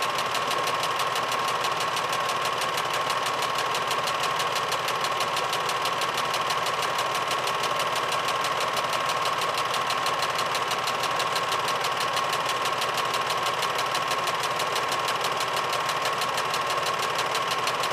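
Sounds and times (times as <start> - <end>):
film projector clattering: 0.0 - 17.9.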